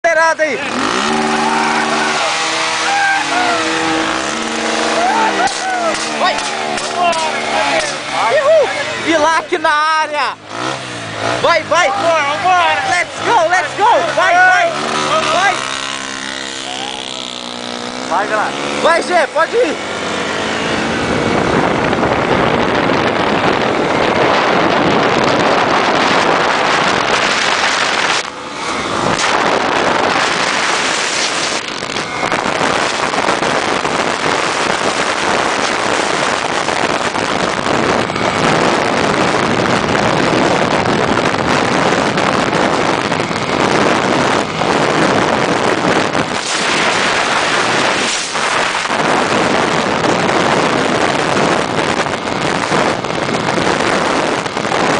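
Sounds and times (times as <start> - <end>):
motorcycle engine: 0.0 - 54.9
wind rushing over microphone: 0.0 - 54.9.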